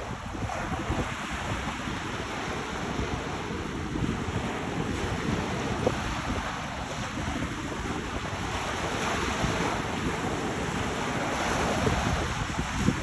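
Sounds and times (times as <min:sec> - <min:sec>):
waves washing up pebble beach: 0:00.0 - 0:13.0
wind rumbling on microphone: 0:00.0 - 0:13.0.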